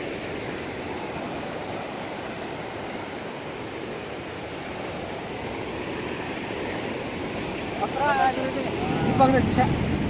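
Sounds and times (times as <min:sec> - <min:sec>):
waves breaking on shore: 0:00.0 - 0:10.0.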